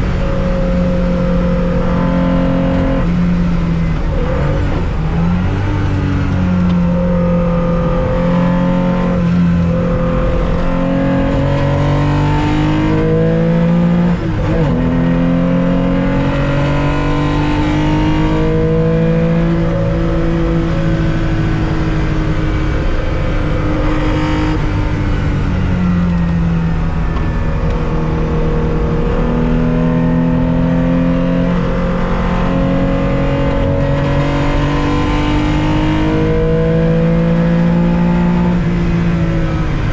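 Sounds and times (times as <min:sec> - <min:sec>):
car engine at racing speed: 0:00.0 - 0:39.9.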